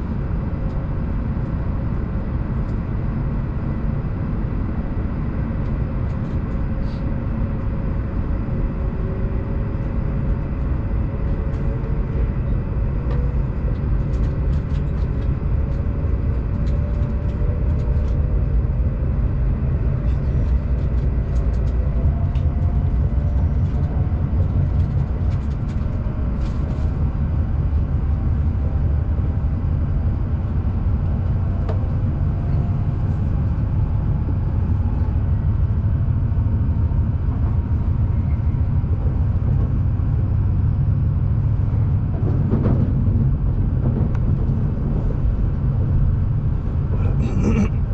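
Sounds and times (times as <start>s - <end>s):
bullet train rumbling: 0.0s - 47.9s.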